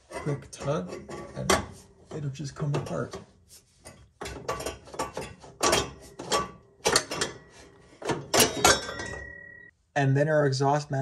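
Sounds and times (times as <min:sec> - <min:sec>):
exhaust pipes scraping and clanking: 0:00.0 - 0:09.7.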